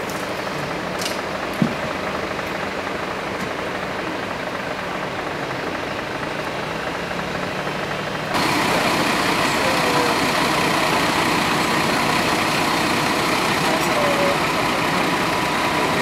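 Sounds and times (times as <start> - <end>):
heavy vehicle engines idling: 0.0 - 16.0.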